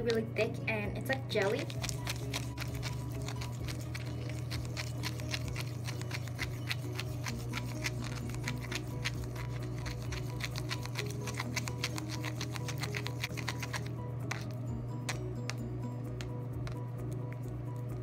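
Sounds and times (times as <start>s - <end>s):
steady low hum: 0.0s - 18.0s
spoon stirring sticky mix: 1.4s - 17.6s.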